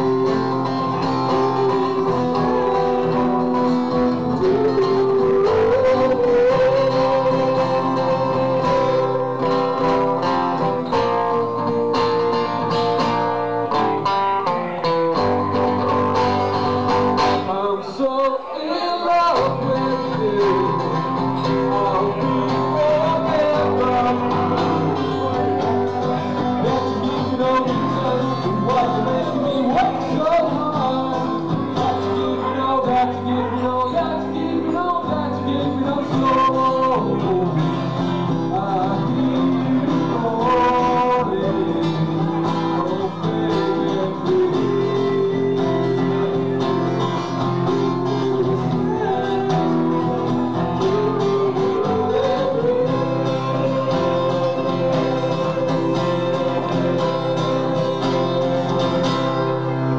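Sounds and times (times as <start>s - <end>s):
guitar: 0.0s - 59.9s
man singing: 0.0s - 59.9s.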